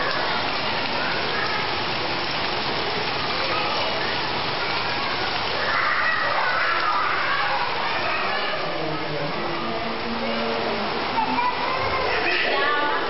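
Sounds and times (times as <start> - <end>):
rain falling on wet ground: 0.0 - 13.0.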